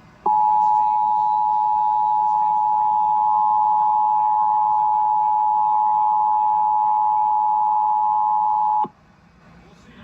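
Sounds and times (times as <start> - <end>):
two-tone alarm: 0.3 - 8.9.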